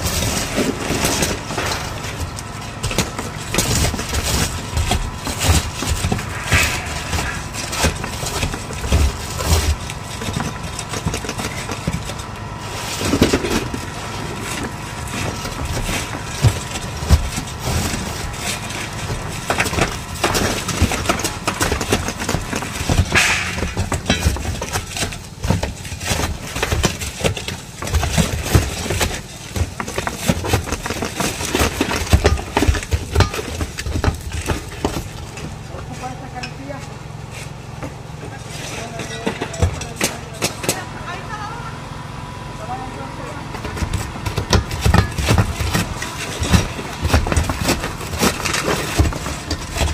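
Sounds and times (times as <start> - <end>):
steady engine hum: 0.0 - 28.2, 29.1 - 49.9
shingles being scraped and pried: 0.0 - 36.3, 43.5 - 49.9.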